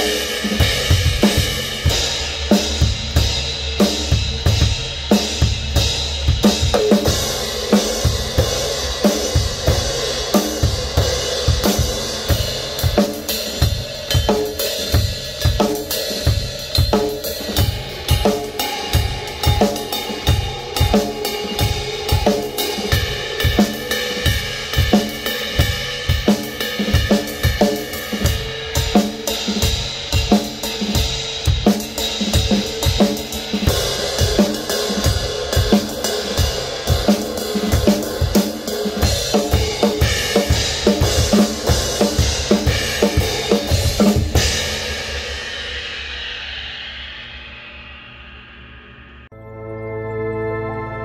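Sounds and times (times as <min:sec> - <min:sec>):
drum kit groove: 0:00.0 - 0:49.0
crash cymbals struck: 0:00.0 - 0:49.4.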